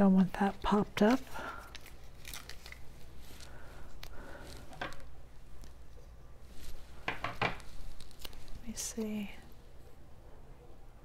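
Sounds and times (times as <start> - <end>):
low steady hum: 0.0 - 11.0
paper rustling: 0.4 - 9.6.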